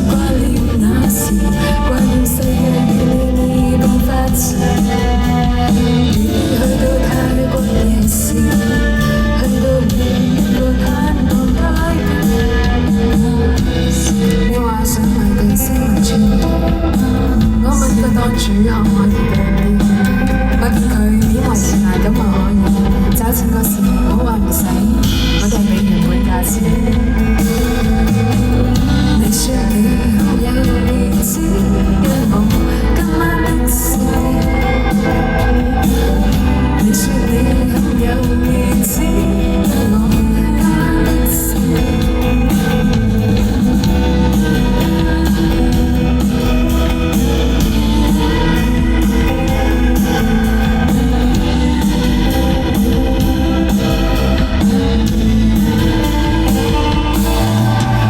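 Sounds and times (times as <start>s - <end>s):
indie pop band playing: 0.0s - 58.0s
person singing: 0.0s - 58.0s.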